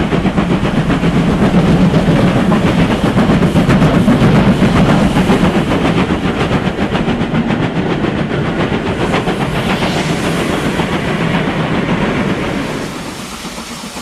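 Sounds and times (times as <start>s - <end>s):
model train wheels clicking on track: 0.0s - 9.8s, 10.6s - 14.0s.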